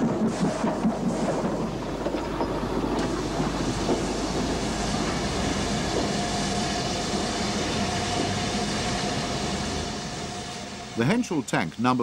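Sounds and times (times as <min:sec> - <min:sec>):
steam locomotive rumbling: 0:00.0 - 0:12.0.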